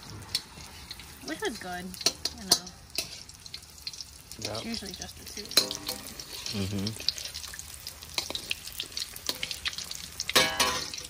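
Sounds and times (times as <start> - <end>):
chopsticks turning food in oil: 0.0 - 11.0
cutlet sizzling in hot oil: 0.0 - 11.0.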